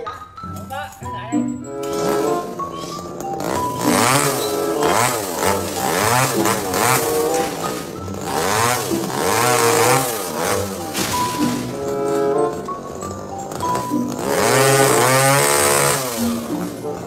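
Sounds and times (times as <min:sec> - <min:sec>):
chainsaw revving while cutting: 0:01.7 - 0:17.0.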